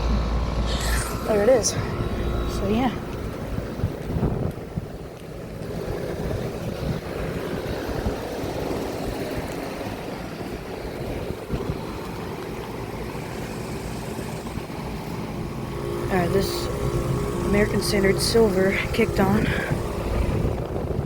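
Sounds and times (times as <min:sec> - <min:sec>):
condenser units droning: 0:00.0 - 0:21.0
wind noise on microphone: 0:00.0 - 0:21.0.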